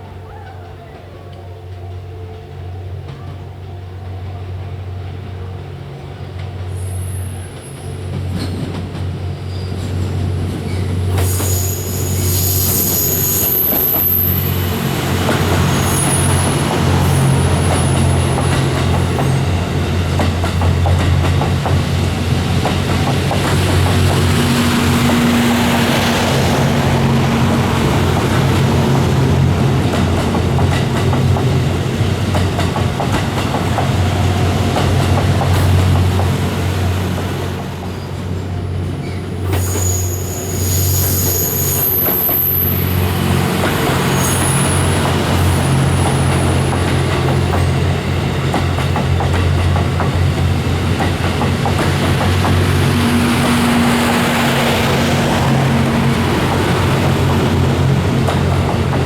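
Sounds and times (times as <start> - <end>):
train engine hum: 0.0 - 59.0.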